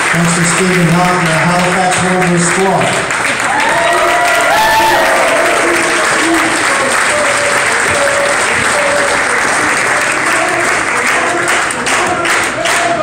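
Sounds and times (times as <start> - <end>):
crowd applauding: 0.0 - 13.0
voices over clapping: 0.0 - 13.0.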